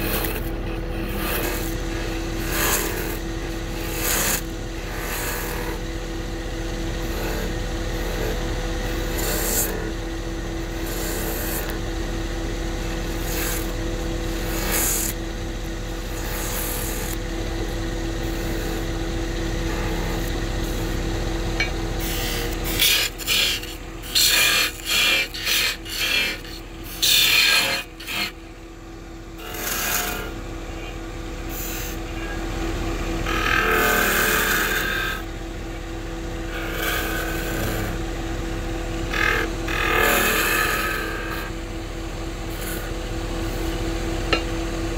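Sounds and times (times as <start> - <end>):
lathe motor hum: 0.0 - 44.9
tool scraping spinning wood: 0.0 - 44.9.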